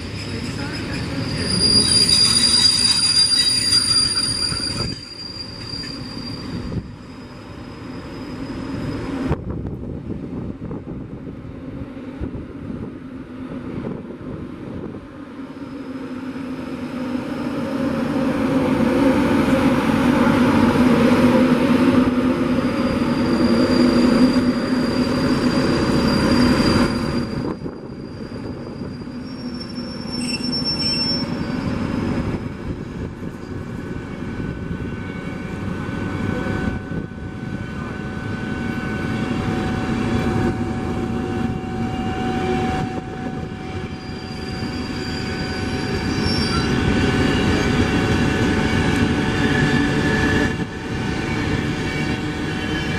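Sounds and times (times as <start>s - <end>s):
wheels squealing on rails: 0.0s - 9.6s, 15.4s - 16.4s, 20.5s - 52.9s
train rushing past: 0.0s - 52.9s.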